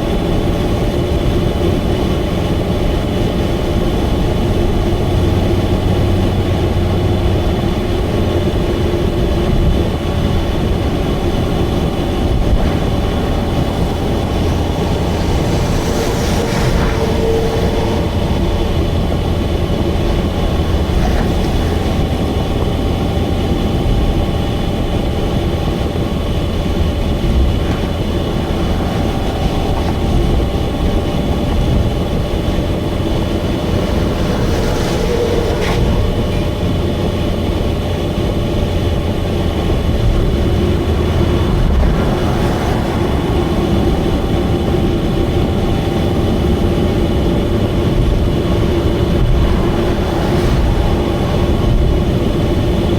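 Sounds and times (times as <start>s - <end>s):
car engine and road noise drone: 0.0s - 52.9s.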